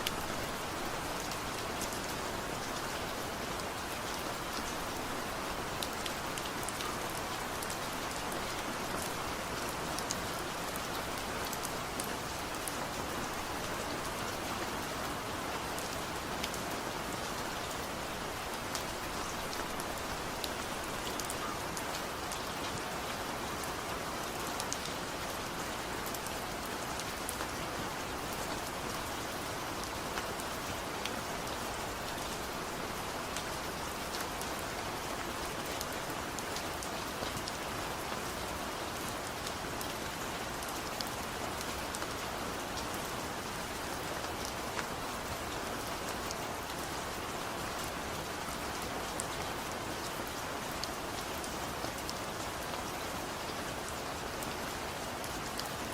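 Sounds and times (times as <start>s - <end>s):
gentle rain falling: 0.0s - 55.9s.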